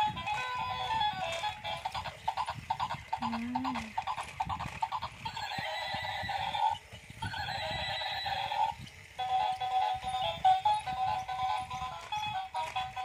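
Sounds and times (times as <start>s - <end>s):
toy motor ticking: 0.0s - 13.0s.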